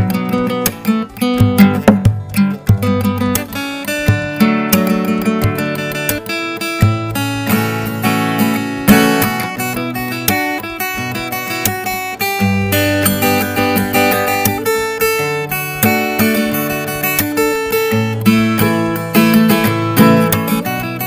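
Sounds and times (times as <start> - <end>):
acoustic guitar music: 0.0 - 21.0.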